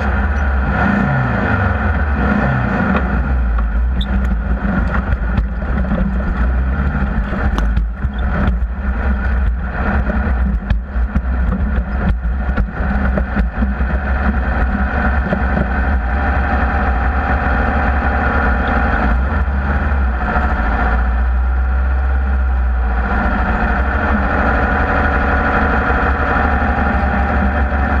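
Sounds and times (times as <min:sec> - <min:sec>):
engine running with low rumble: 0:00.0 - 0:28.0.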